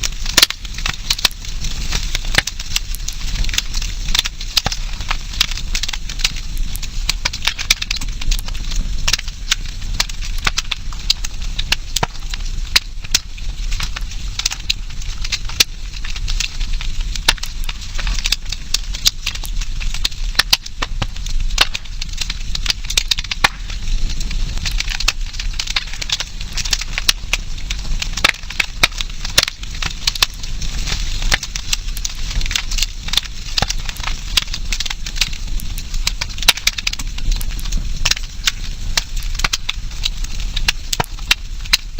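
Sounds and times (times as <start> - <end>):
flames hissing: 0.0 - 41.9
wood crackling and popping: 0.0 - 41.9.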